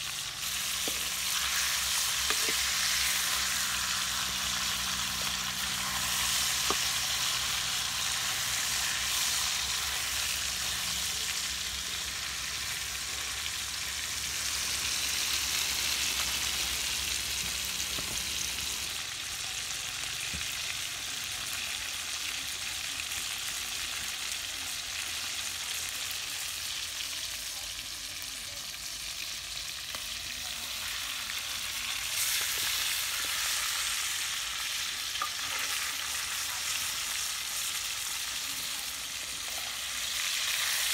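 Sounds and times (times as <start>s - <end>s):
chicken sizzling in hot oil: 0.0s - 40.9s.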